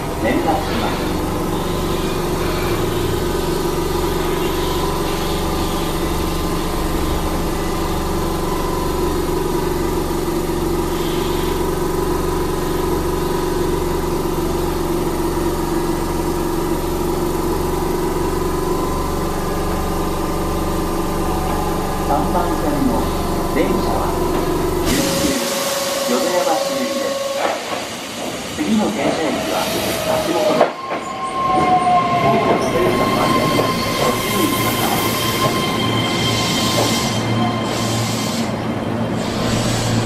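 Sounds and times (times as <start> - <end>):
train equipment humming: 0.0 - 40.0.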